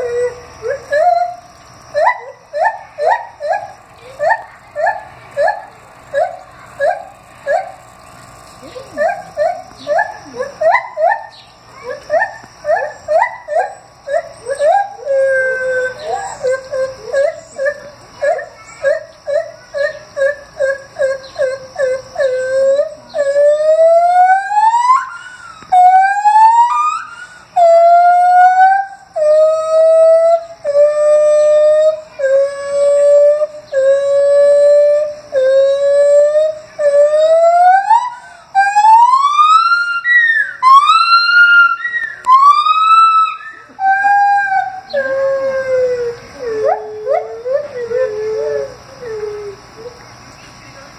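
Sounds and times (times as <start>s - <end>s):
gibbon hooting: 0.0s - 7.8s, 8.6s - 50.0s.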